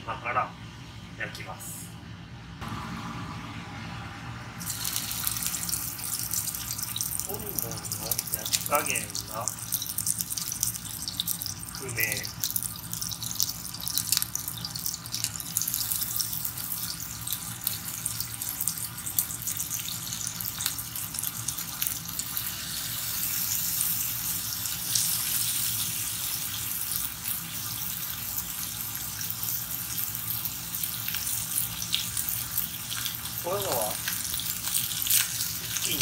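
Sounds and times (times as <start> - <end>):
offal sizzling in a pot: 4.6 - 36.0.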